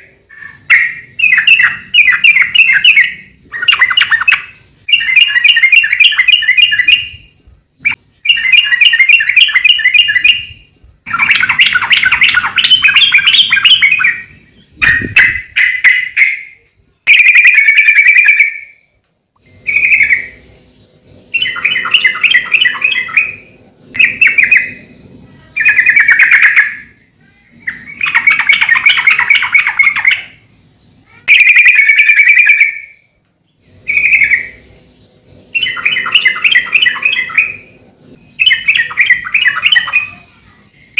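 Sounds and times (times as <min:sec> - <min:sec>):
bird singing rapid chattering notes: 0:00.0 - 0:18.8, 0:19.4 - 0:40.9.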